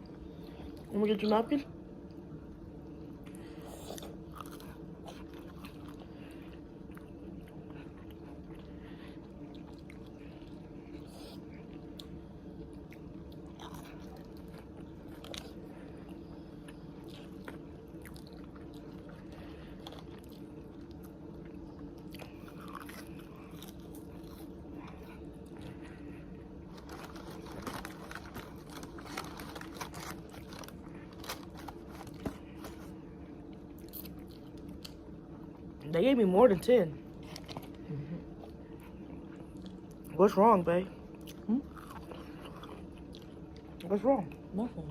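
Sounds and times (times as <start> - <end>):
steady low hum: 0.0 - 44.9
chewing crunchy fried food: 1.8 - 35.8, 37.0 - 40.2, 40.9 - 44.5.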